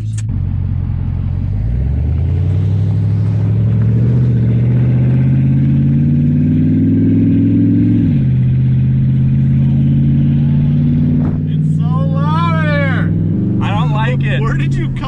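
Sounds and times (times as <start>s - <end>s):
loud car engine revving: 0.0s - 15.0s.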